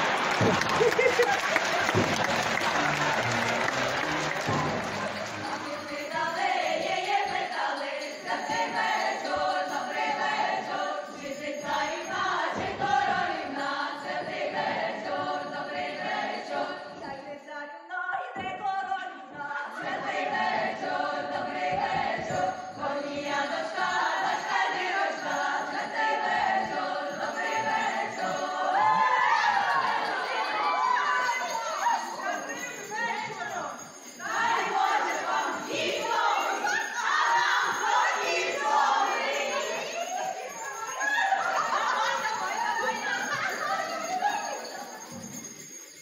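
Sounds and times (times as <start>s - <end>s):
chorus singing: 0.0s - 46.0s.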